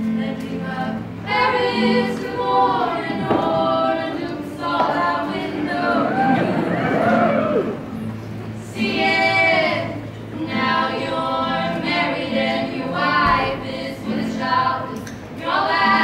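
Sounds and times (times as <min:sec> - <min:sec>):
women singing in harmony: 0:00.0 - 0:16.0.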